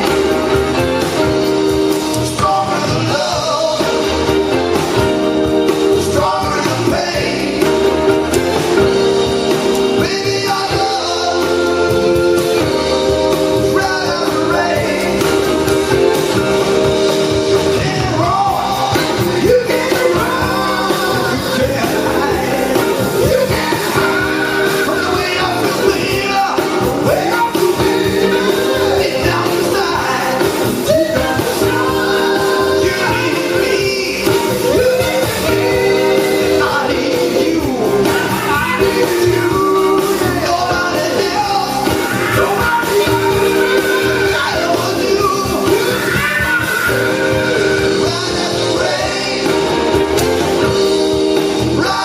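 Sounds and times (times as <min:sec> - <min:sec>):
live blues band playing: 0:00.0 - 0:52.0
person singing: 0:00.0 - 0:52.0.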